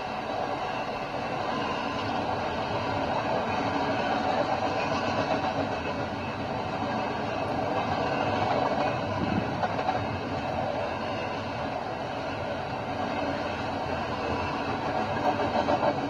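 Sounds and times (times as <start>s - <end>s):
freight train wheels on rail: 0.0s - 16.0s.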